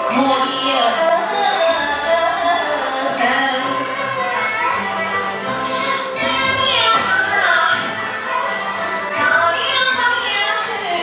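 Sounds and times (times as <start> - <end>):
opera music with sliding melody: 0.0 - 11.0.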